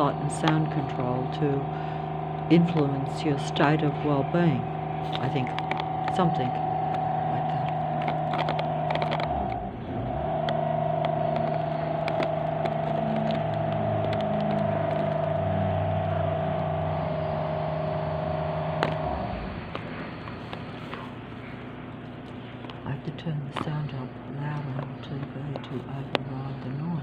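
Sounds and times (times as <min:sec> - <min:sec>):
steady motor drone: 0:00.0 - 0:27.0.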